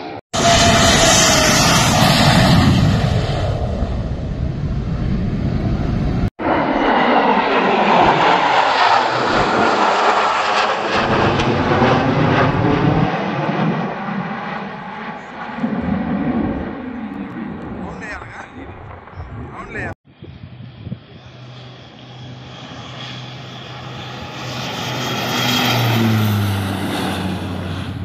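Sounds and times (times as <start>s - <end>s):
fighter jet passing low: 0.0s - 28.0s
jet formation flying overhead: 0.0s - 28.0s.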